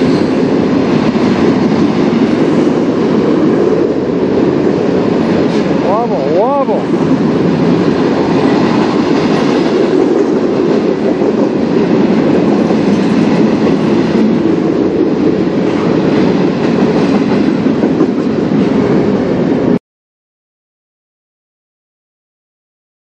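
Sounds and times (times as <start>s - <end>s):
train wheels rolling on rails: 0.0s - 19.8s.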